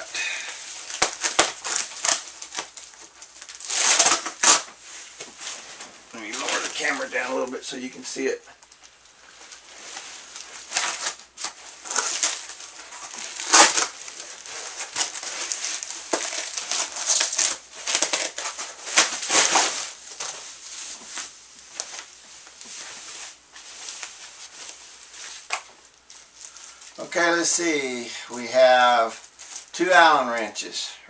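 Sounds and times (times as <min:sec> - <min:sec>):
packing material crinkling: 0:00.0 - 0:27.5.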